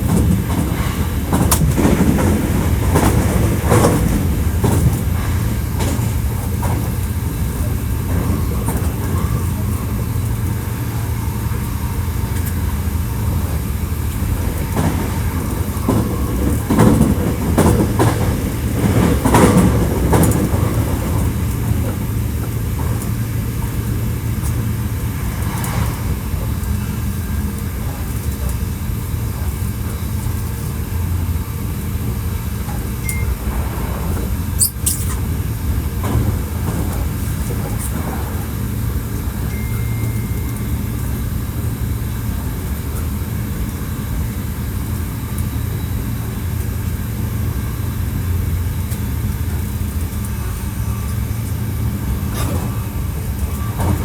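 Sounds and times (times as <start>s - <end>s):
train rattling: 0.0s - 54.0s
train wheels rumbling: 0.0s - 54.0s.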